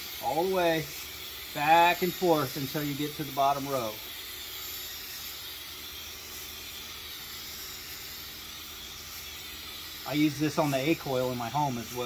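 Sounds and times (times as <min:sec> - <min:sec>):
aerosol can spraying hiss: 0:00.0 - 0:12.0.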